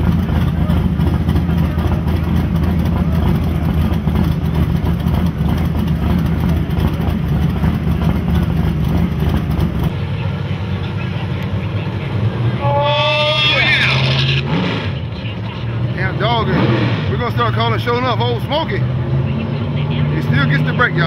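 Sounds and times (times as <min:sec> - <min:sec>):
car engine idling: 0:00.0 - 0:21.0
distant engine rumble: 0:00.0 - 0:21.0.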